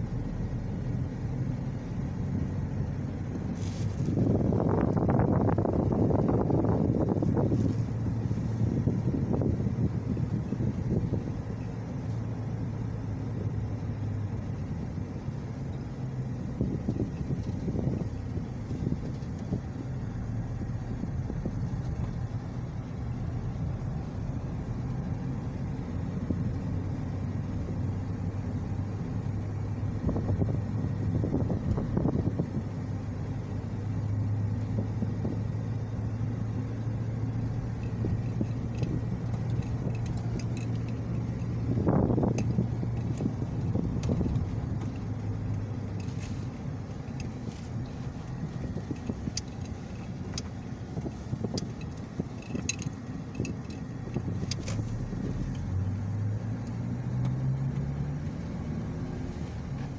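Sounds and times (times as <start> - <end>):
car engine drone: 0.0 - 59.9
tyre and road noise: 0.0 - 59.9.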